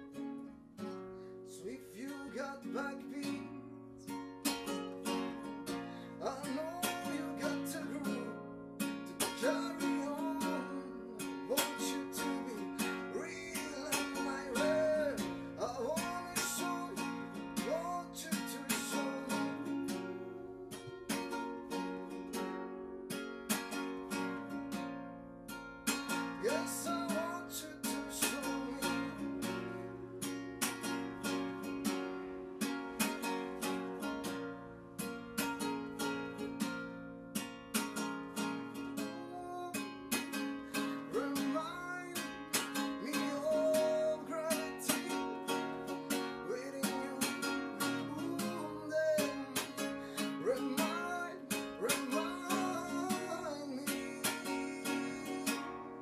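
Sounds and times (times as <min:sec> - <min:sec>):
acoustic guitar strummed and picked: 0:00.0 - 0:56.0.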